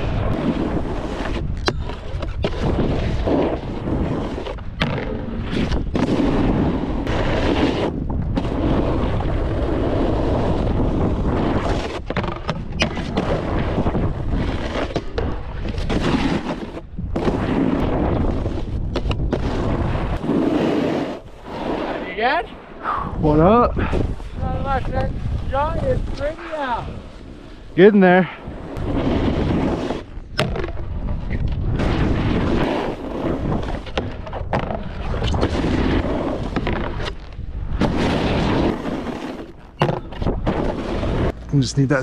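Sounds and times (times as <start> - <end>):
snowboard scraping over snow: 0.0 - 22.6, 23.2 - 42.0
wind buffeting microphone: 0.0 - 38.8, 39.5 - 42.0.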